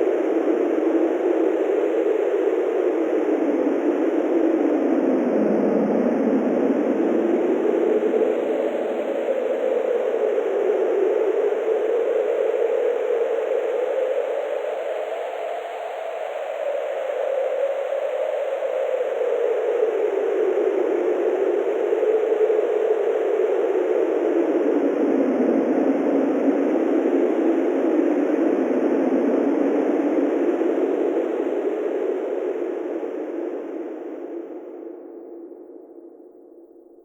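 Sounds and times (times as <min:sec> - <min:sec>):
howling wind: 0:00.0 - 0:37.0.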